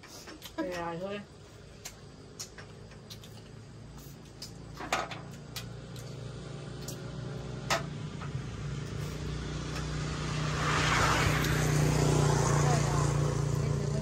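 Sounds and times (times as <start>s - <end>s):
vehicle engine humming: 0.8s - 14.0s.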